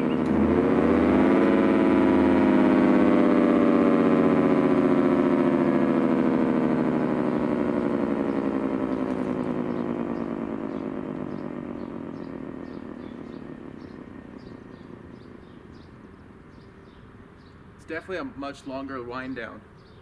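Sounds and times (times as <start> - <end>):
siren winding down: 0.0 - 17.3.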